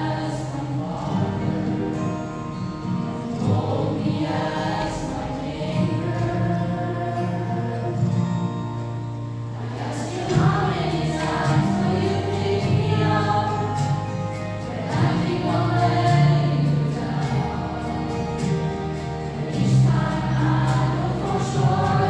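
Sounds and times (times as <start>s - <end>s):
choir singing gospel song: 0.0s - 22.0s
low musical accompaniment: 0.0s - 22.0s.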